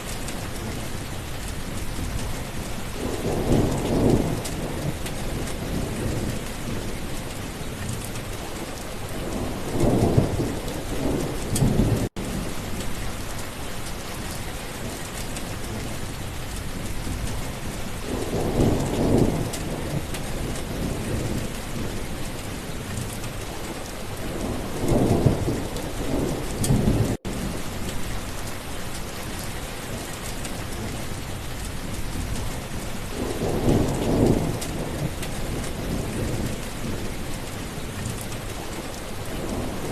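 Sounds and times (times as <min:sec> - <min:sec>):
thunder rumbling: 0:00.0 - 0:13.3, 0:14.8 - 0:39.9
steady rainfall: 0:00.0 - 0:39.9.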